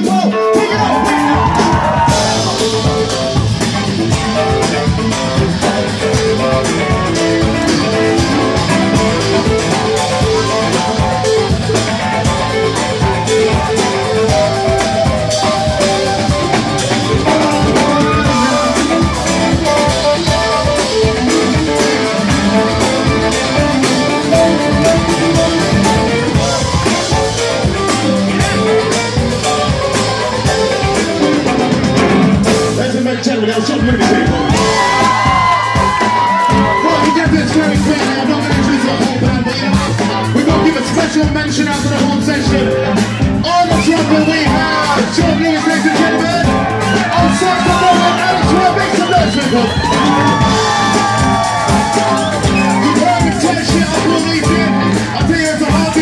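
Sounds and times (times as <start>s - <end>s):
drums: 0.0s - 56.0s
electric guitar: 0.0s - 56.0s
keyboard solo: 0.0s - 56.0s.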